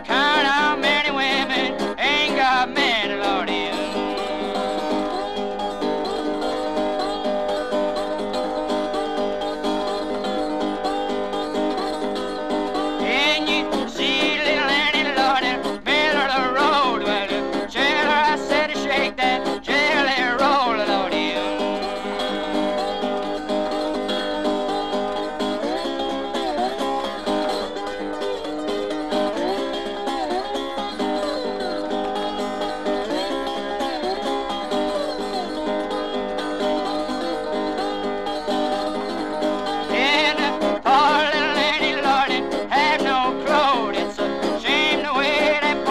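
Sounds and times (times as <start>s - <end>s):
acoustic plucked string music: 0.0s - 45.9s.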